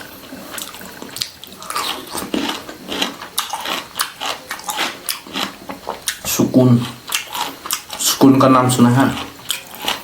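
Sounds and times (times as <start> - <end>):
wet chewing and lip-smacking: 0.5 - 8.2, 9.1 - 10.0.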